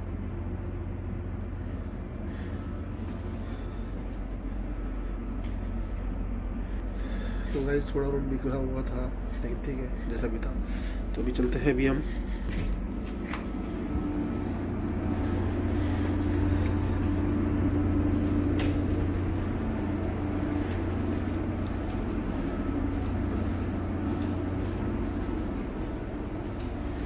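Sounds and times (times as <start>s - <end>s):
ship machinery humming: 0.0s - 27.0s.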